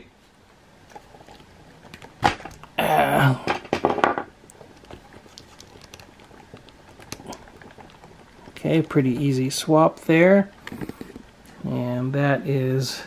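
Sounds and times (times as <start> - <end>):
wordless vocal noise: 0.8 - 3.7, 4.4 - 13.0.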